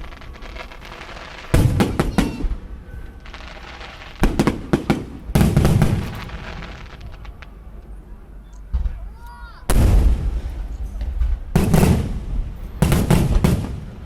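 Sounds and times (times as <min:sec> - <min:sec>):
fireworks bursting: 0:00.0 - 0:07.8, 0:08.6 - 0:14.0.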